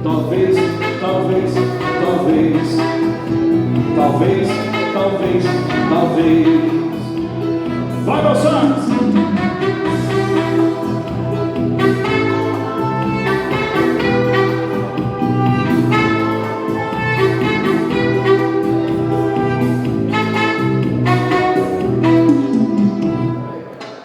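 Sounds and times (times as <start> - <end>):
live dance band instrumental: 0.0 - 24.0.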